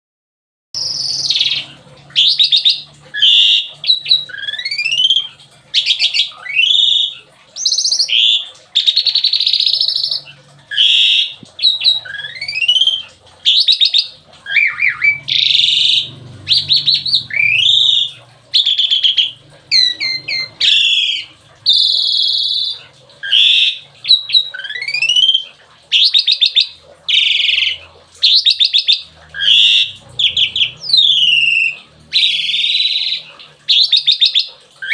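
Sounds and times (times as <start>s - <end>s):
starling singing whistles and trills: 0.8s - 34.9s.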